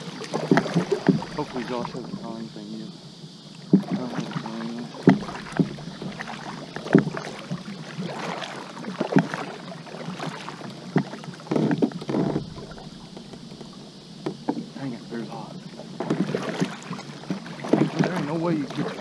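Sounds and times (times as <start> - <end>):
kayak paddle splashing water: 0.0 - 19.0.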